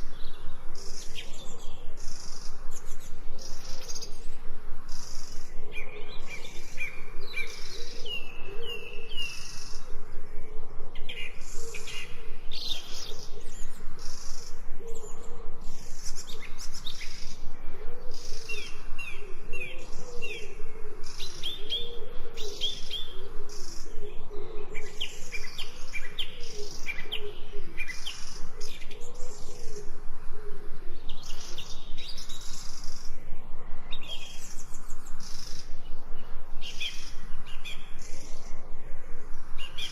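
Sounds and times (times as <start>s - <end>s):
birds chirping: 0.0s - 39.9s
low wavering bird calls: 0.0s - 39.9s.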